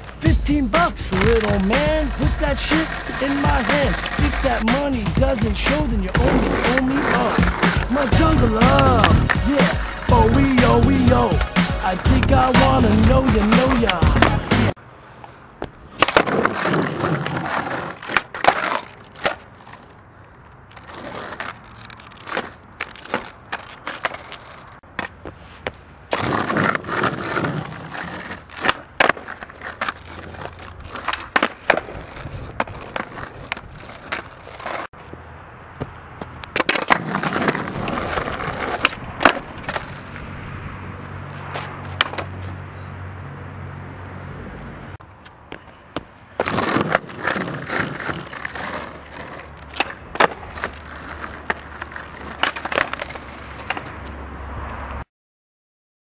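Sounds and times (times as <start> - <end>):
skateboard deck clacking on ground: 0.0 - 14.7, 15.6 - 20.0, 20.7 - 34.9, 35.8 - 40.3, 41.4 - 42.4, 45.2 - 54.1
skateboard wheels rolling on pavement: 0.0 - 55.1.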